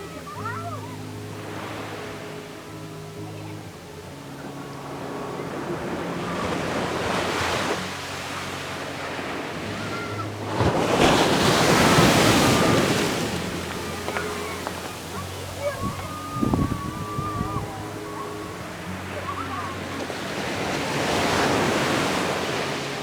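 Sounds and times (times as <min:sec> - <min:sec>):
ocean waves breaking on beach: 0:00.0 - 0:23.0.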